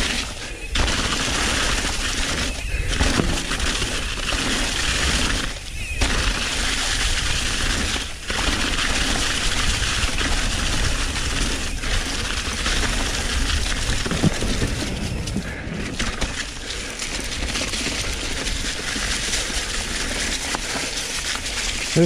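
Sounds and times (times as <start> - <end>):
bike rattling and clicking: 0.0 - 22.0
bike tyres on leaves: 0.0 - 22.0.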